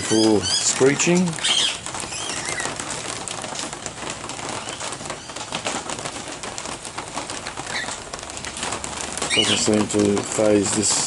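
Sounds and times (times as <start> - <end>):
steady rain pattering: 0.0 - 11.0.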